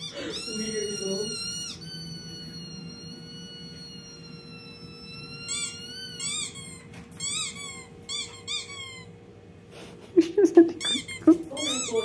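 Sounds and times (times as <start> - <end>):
dog whining: 0.0 - 9.3, 10.2 - 12.0.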